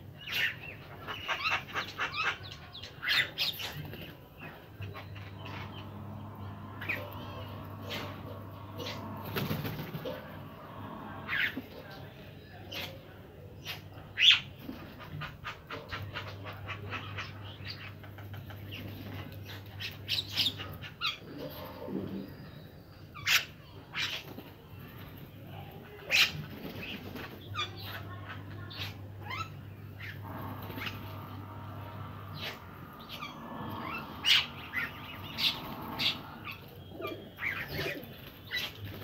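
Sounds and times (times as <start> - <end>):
chatter of bird calls: 0.0 - 39.0
pigeon cooing: 0.2 - 24.5, 25.5 - 39.0.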